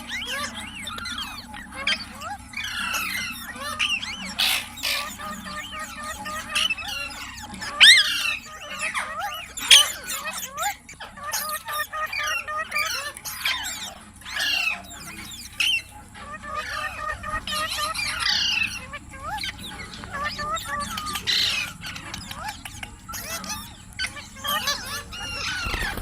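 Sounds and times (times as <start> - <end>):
parrot chattering: 0.0 - 26.0
parrot squawking: 0.0 - 26.0.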